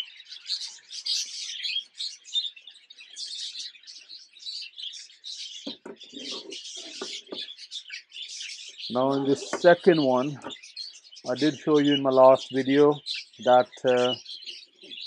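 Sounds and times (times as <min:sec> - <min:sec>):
budgerigars chirping and chattering: 0:00.0 - 0:15.0.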